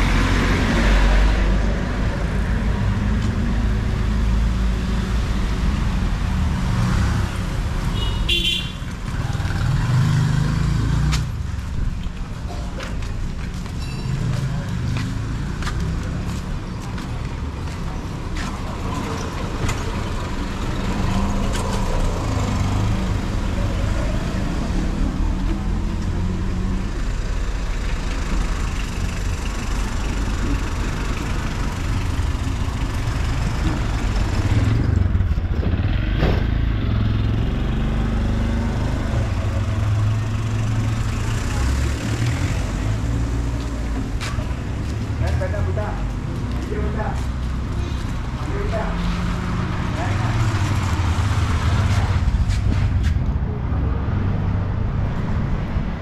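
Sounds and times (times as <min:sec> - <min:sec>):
traffic engine hum: 0:00.0 - 0:56.0.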